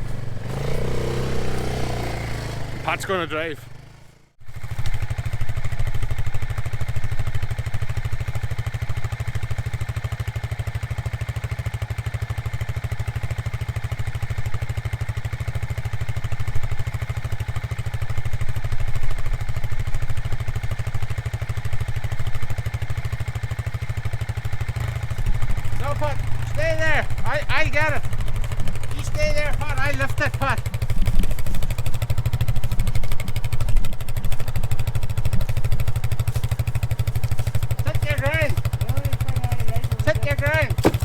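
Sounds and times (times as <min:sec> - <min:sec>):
quad bike engine running: 0:00.0 - 0:41.0.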